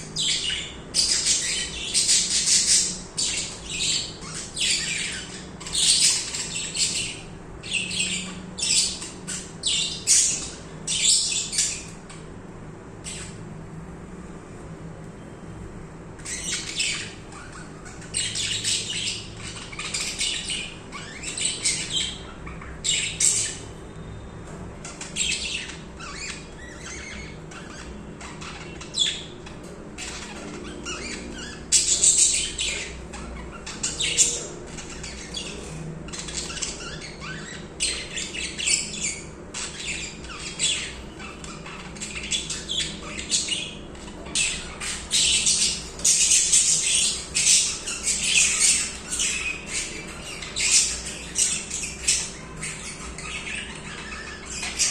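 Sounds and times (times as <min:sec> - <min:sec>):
sharp bird calls: 0:00.0 - 0:13.5, 0:16.0 - 0:54.9
budgerigars chirping and warbling: 0:00.0 - 0:13.6, 0:16.0 - 0:54.9.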